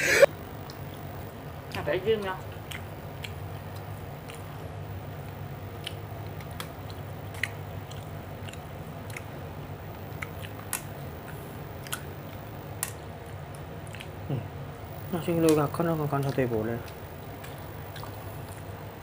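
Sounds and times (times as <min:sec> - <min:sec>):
steady low hum: 0:00.0 - 0:19.0
person chewing: 0:02.4 - 0:14.6, 0:15.4 - 0:19.0.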